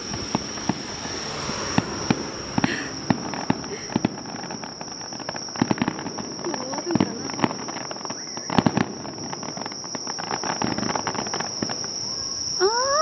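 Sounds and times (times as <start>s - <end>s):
crickets trilling: 0.0s - 13.0s
fireworks popping and crackling: 0.0s - 13.0s.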